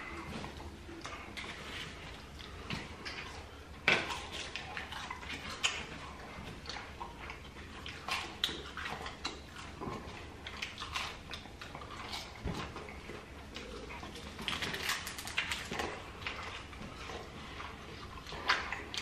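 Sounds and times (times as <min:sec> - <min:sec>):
chewing with wet mouth clicks: 0:00.0 - 0:19.0.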